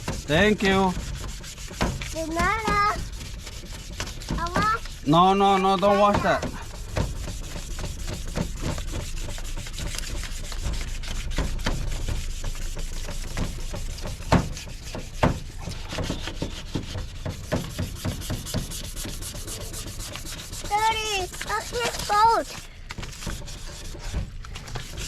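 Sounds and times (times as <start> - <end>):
sharp knocks: 0.0 - 4.8, 5.8 - 22.0
sandpaper rubbing strokes: 0.0 - 25.0.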